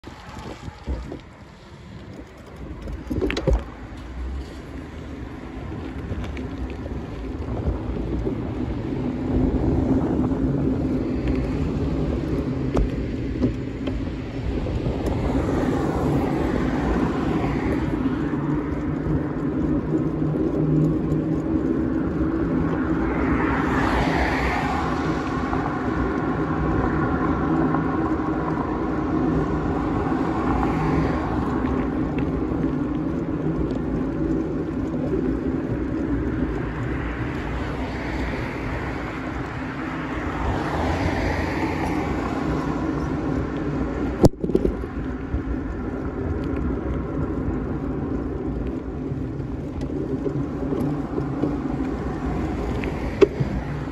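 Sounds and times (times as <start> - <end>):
cars passing by: 0.0 - 53.9
small vehicle rumbling over pavement: 0.0 - 53.9.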